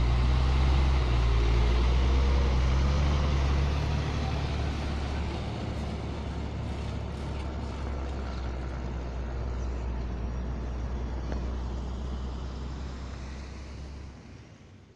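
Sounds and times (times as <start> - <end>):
truck engine low rumble: 0.0 - 14.9.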